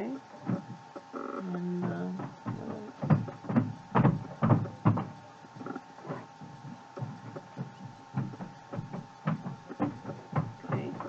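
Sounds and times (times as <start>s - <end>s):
faint steady hum: 0.0s - 11.0s
soft thumps and taps: 0.4s - 11.0s.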